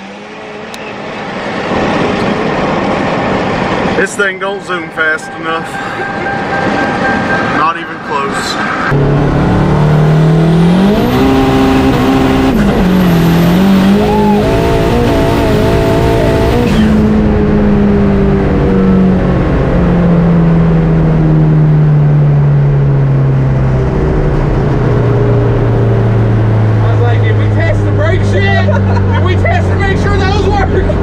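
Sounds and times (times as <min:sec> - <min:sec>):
turbocharged car engine accelerating: 0:00.0 - 0:31.0.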